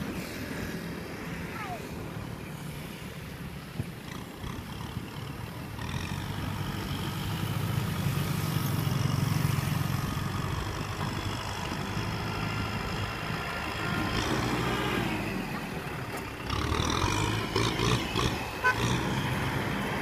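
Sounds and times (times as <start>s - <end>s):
tractor diesel engine running: 3.4s - 20.0s.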